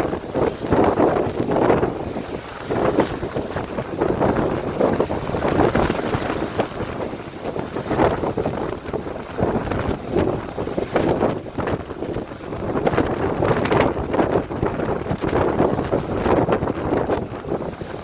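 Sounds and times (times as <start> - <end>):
sea waves breaking against hull: 0.0 - 18.0
wind buffeting microphone: 0.0 - 18.0.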